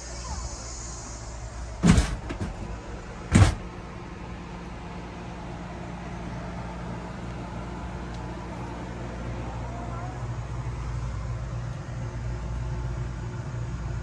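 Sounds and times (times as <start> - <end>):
motor vehicle engine hum: 0.0 - 14.0.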